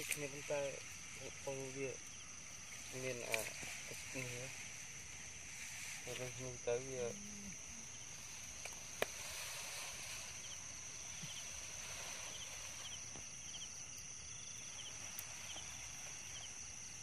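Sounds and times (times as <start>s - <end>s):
insect chirps: 0.0s - 17.0s
insect high drone: 0.0s - 17.0s.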